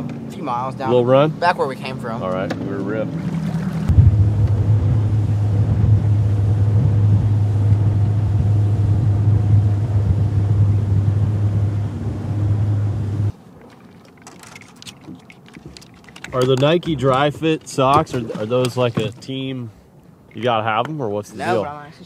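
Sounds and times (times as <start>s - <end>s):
outboard motor droning: 0.0s - 21.8s.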